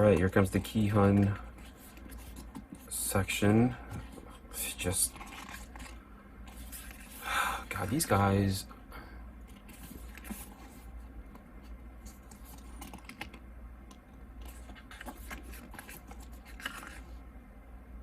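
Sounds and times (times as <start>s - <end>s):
paper pages rustling: 0.0s - 8.3s, 9.4s - 11.4s, 12.0s - 13.4s, 14.4s - 17.2s.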